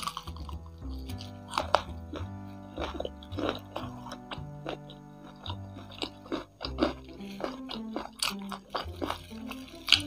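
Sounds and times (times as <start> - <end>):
background music with low bass: 0.0 - 10.0
wet crunchy chewing: 0.0 - 10.0.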